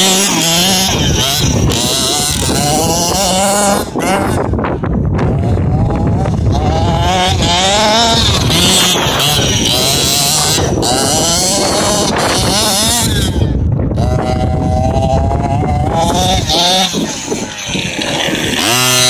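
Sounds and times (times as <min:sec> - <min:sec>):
model car engine revving: 0:00.0 - 0:04.5, 0:05.2 - 0:19.0.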